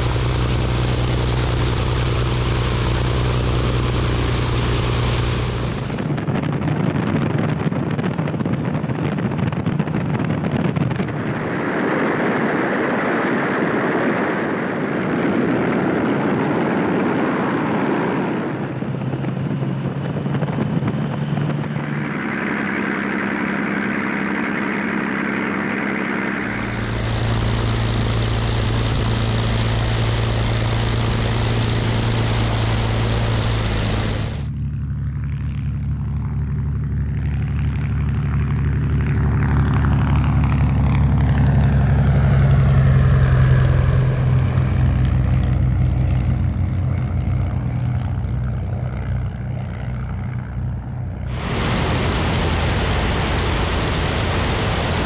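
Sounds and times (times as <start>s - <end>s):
biplane engines and propellers: 0.0s - 55.0s
biplane passing overhead: 0.0s - 55.0s.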